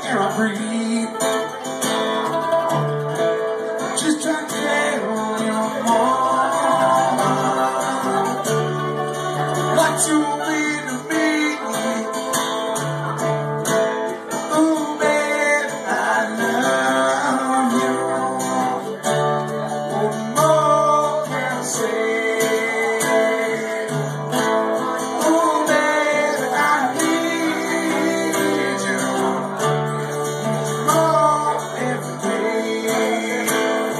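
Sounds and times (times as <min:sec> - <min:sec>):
mandolin: 0:00.0 - 0:33.9
strummed acoustic guitar: 0:00.0 - 0:33.9.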